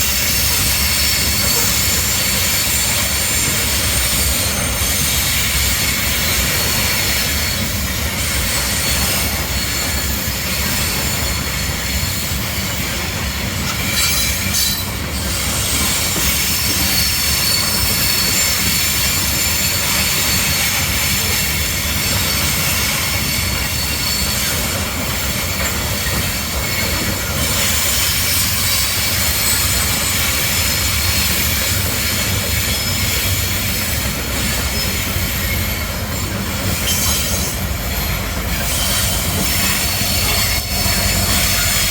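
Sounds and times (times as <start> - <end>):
train rumbling: 0.0 - 41.9
train wheels squealing on rails: 0.0 - 41.9.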